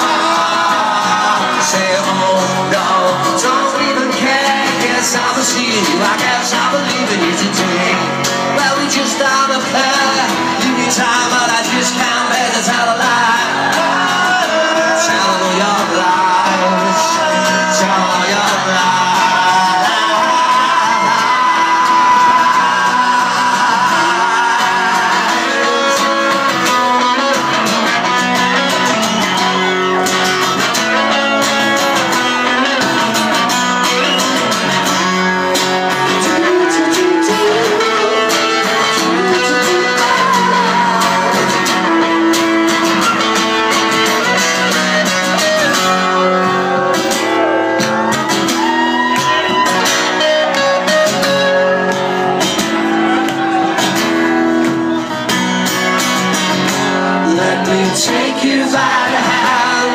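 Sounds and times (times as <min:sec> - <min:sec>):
acoustic guitar strumming: 0:00.0 - 0:59.9
lead guitar line: 0:00.0 - 0:59.9.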